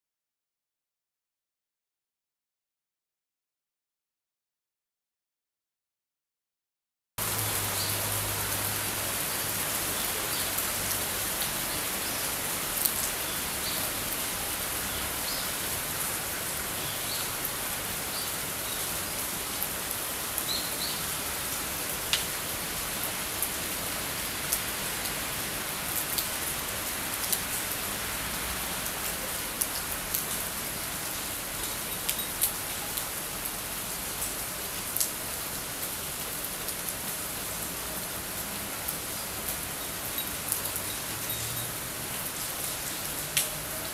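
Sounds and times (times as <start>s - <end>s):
steady rain: 7.2s - 43.9s.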